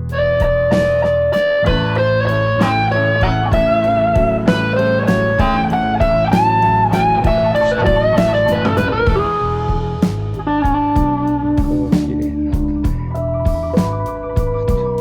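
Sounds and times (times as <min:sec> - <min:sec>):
bass: 0:00.0 - 0:15.0
drum beat: 0:00.0 - 0:15.0
electric guitar bluesy melody: 0:00.0 - 0:15.0.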